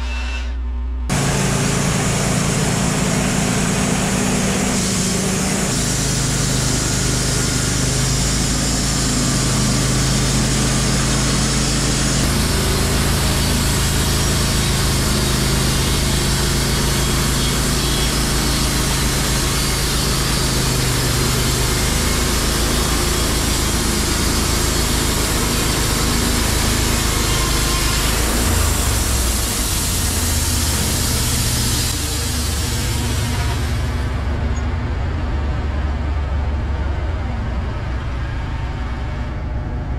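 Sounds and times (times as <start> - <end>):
bandsaw mill sawing log: 1.1 - 34.3.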